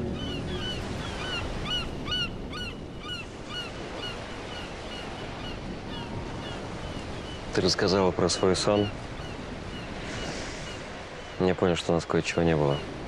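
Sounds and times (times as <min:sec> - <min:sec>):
seagulls calling: 0:00.0 - 0:11.5, 0:12.1 - 0:13.0
sea washing: 0:00.0 - 0:13.0.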